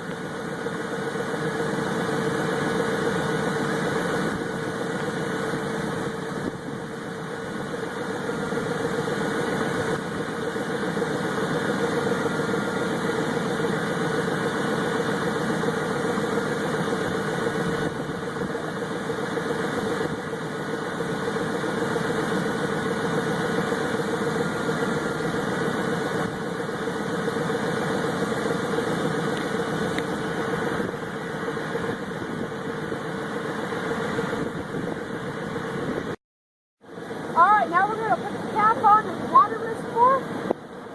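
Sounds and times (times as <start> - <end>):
pickup truck engine idling: 0.0 - 36.2, 36.9 - 40.9.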